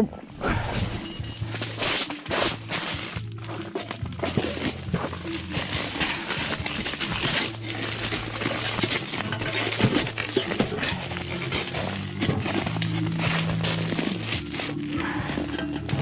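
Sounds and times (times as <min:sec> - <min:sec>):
tent fabric rustling and crinkling: 0:00.3 - 0:16.0.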